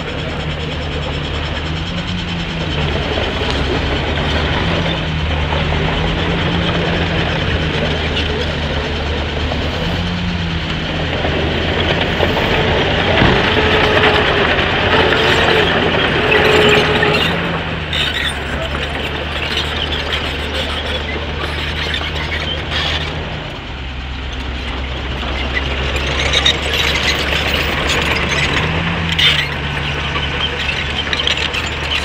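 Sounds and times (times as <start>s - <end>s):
bulldozer diesel engine: 0.0s - 32.0s
metallic clanking of tracks: 0.0s - 32.0s.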